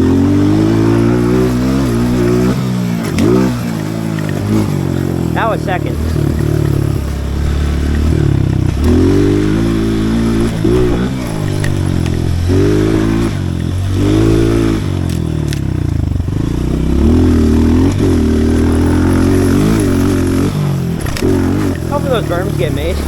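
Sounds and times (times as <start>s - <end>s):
pit bike engine revving: 0.0s - 23.0s.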